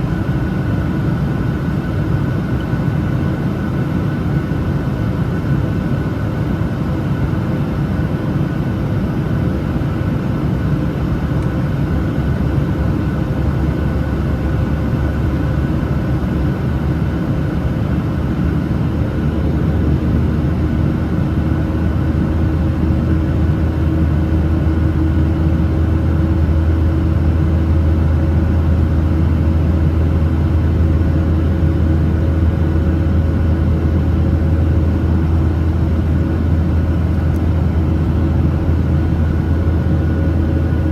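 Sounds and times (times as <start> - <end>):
jet engine drone and airflow: 0.0 - 40.9
low cabin hum: 0.0 - 40.9.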